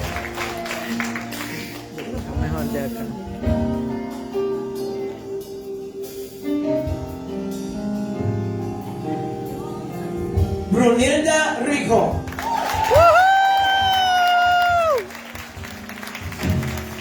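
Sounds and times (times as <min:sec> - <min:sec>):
instrumental music with bass line: 0:00.0 - 0:17.0.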